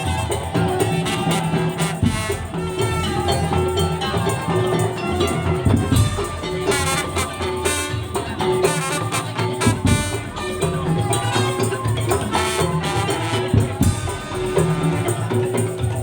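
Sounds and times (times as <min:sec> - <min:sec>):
drums and struck percussion: 0:00.0 - 0:16.0
pitched melody: 0:00.0 - 0:16.0.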